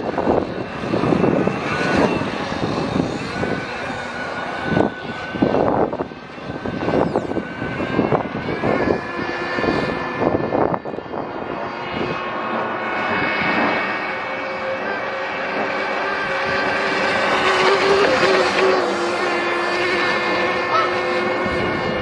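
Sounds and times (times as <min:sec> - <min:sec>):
model speedboat engine whining: 0:00.0 - 0:22.0.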